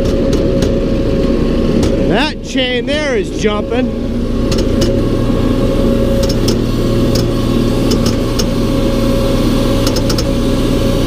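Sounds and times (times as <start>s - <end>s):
hay grinder running: 0.0s - 11.0s.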